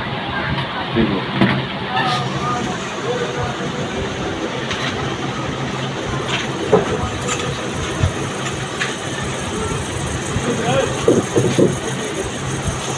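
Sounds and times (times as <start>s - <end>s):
ceiling fan motor humming: 1.9s - 12.9s.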